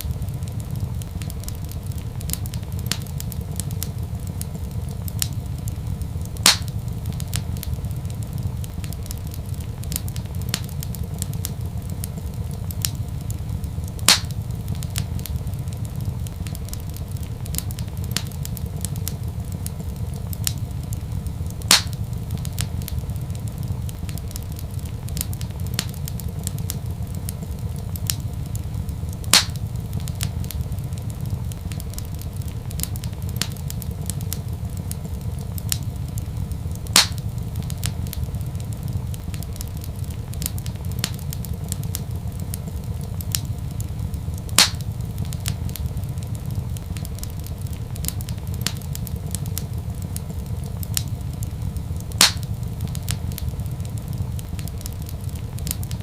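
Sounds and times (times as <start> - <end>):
fire popping loudly: 0.0 - 56.0
wood fire crackling: 0.0 - 56.0.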